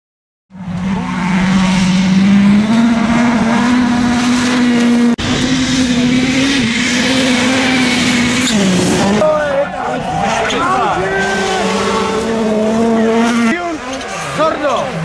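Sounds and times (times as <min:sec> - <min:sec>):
rally car engine at high revs: 0:00.6 - 0:15.0.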